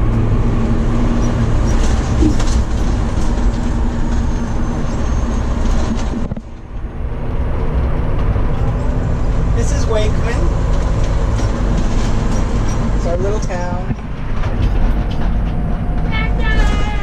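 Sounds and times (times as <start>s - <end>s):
road noise: 0.0s - 17.0s
truck engine running: 0.0s - 17.0s.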